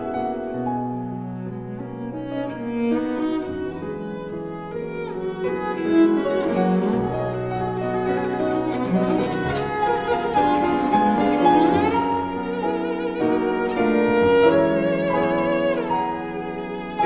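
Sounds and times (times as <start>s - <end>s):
bowed string accompaniment: 0.0s - 17.0s
violin melody: 0.0s - 17.0s.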